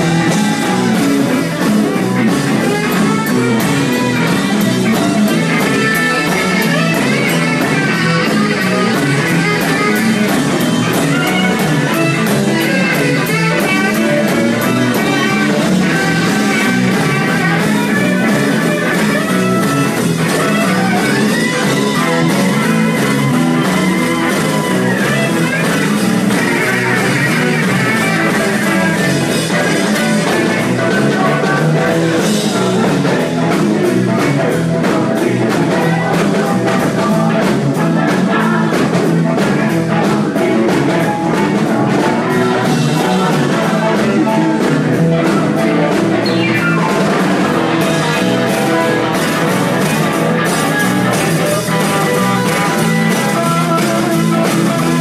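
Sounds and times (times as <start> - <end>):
electric guitar: 0.0 - 55.0
live rock band playing: 0.0 - 55.0
steady drum beat: 0.0 - 55.0.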